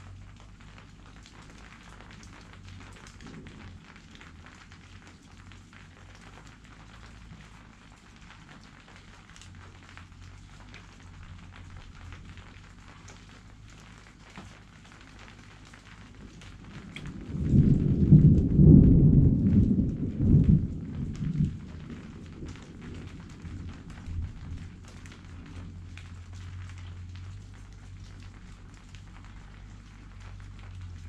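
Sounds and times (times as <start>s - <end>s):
light rain pattering: 0.0s - 31.0s
low rumble of thunder: 0.0s - 31.0s.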